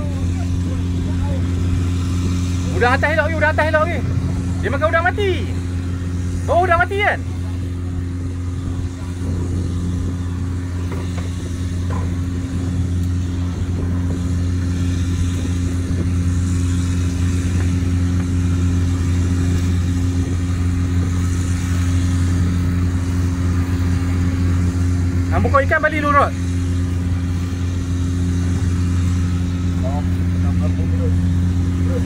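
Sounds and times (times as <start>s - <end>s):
engine humming steadily: 0.0s - 32.0s.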